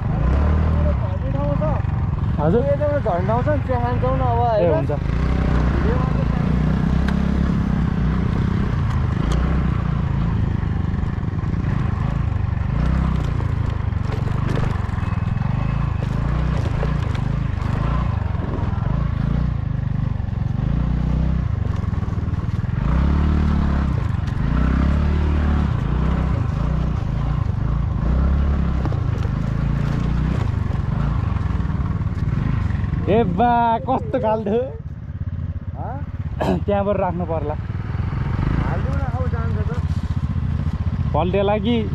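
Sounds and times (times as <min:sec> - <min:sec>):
vehicle engine revving: 0:00.0 - 0:41.9.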